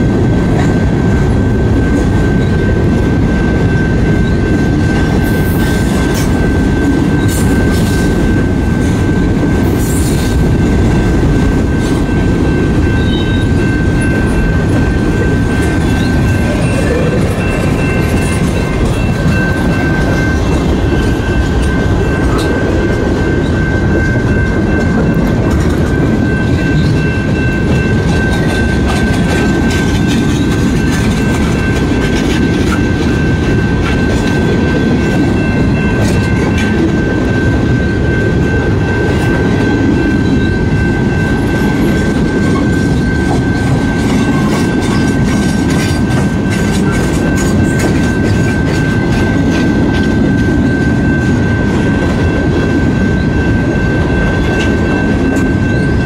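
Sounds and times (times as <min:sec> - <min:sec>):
freight train wheels rumbling: 0:00.0 - 0:56.0
high ringing tone: 0:00.0 - 0:56.0.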